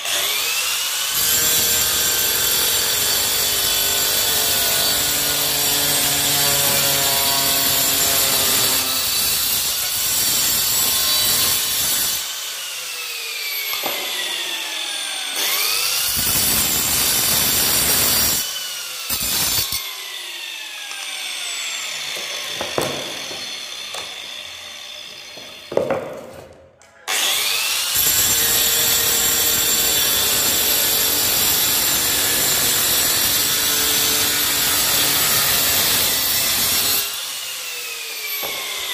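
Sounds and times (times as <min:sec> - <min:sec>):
angle grinder cutting tile: 0:00.0 - 0:26.5, 0:27.1 - 0:38.9.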